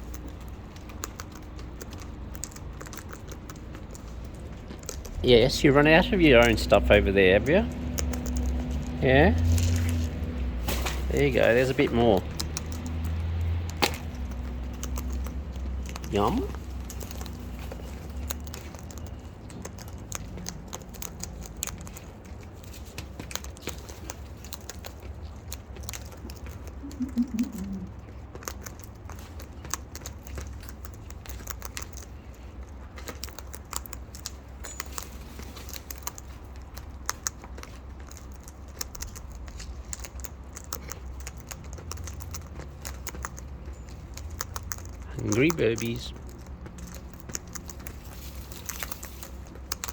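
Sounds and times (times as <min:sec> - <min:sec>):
beaks pecking and cracking food: 0:00.0 - 0:49.9
steady low hum: 0:00.0 - 0:49.9.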